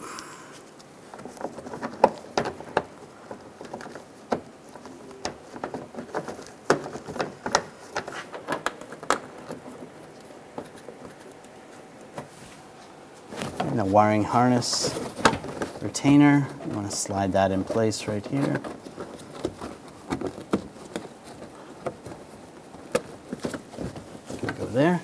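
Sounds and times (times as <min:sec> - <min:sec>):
plastic clicks and rustles: 0:00.8 - 0:12.3, 0:14.5 - 0:25.0.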